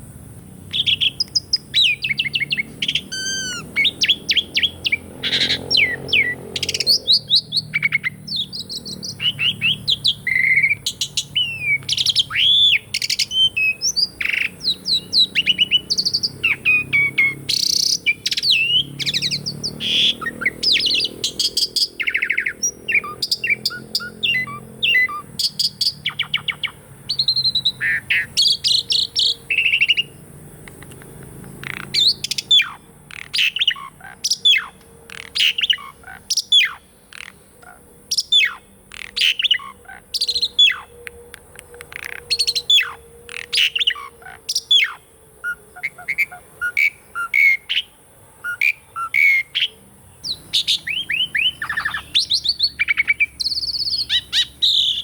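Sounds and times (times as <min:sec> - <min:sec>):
starling singing: 0:00.6 - 0:55.0.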